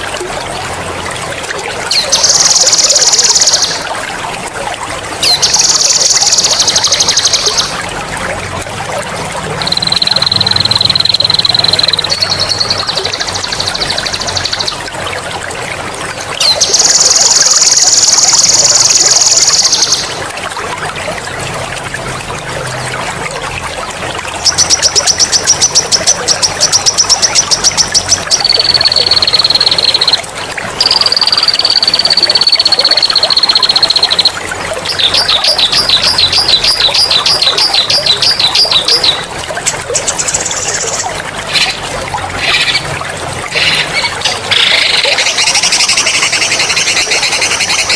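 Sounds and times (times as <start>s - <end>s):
water trickling: 0.0s - 47.9s.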